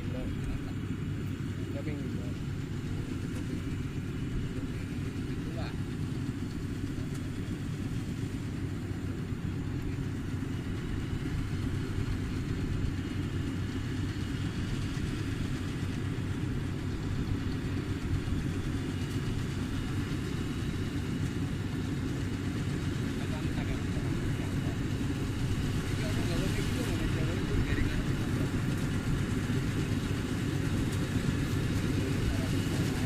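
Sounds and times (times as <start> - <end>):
combine harvester engine rumble: 0.0 - 33.0.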